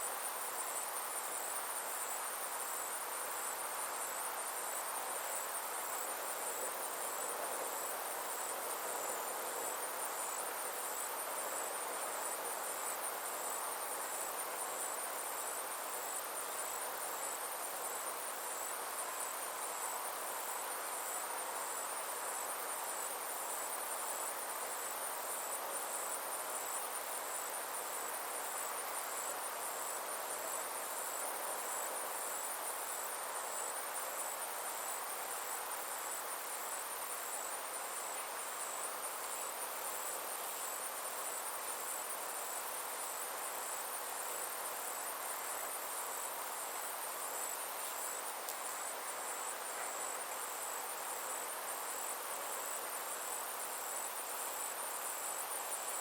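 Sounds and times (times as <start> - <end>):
insects chirring: 0.0 - 56.0
soft steady hiss: 0.0 - 56.0.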